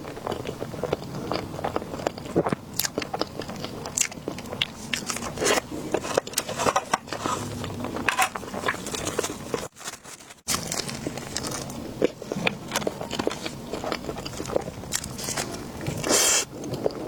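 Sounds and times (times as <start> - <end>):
biting and chewing: 0.0 - 17.0.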